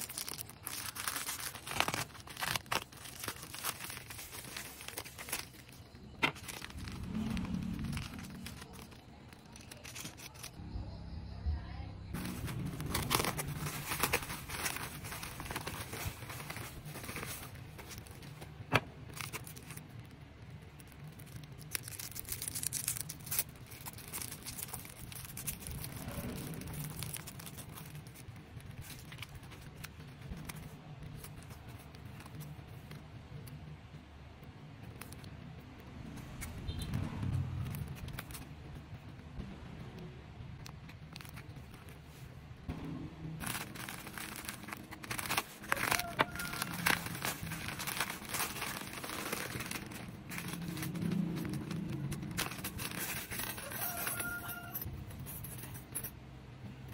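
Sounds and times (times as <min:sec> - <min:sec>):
plastic packaging crinkling: 0:00.0 - 0:10.6, 0:12.2 - 0:33.5, 0:40.6 - 0:42.2, 0:43.4 - 0:55.7.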